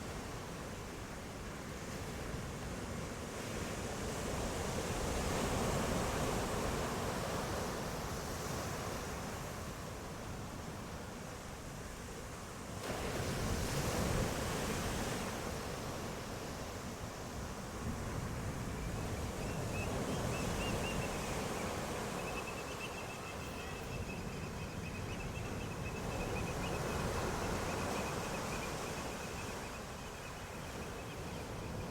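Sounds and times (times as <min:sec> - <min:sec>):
ocean waves breaking on shore: 0:00.0 - 0:31.9
wind: 0:00.0 - 0:31.9.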